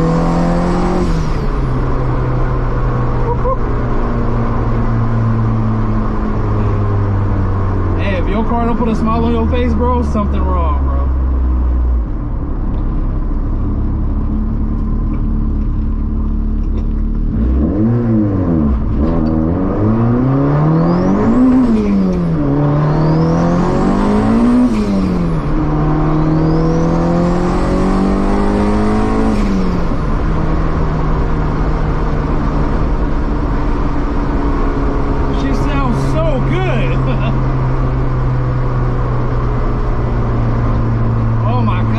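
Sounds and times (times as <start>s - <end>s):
car engine from inside cabin: 0.0s - 41.9s.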